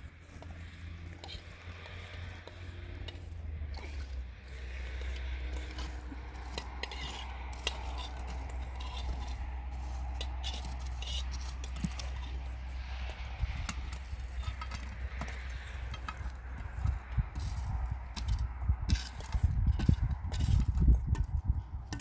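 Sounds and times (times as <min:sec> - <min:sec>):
objects clicking and scraping: 0:00.0 - 0:22.0
steady low rumble: 0:00.0 - 0:22.0.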